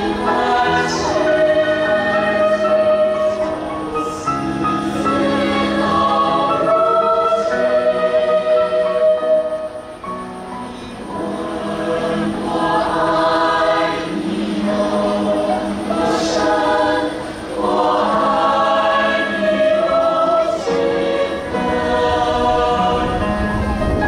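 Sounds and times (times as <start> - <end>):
choir singing slow song: 0.0 - 24.0.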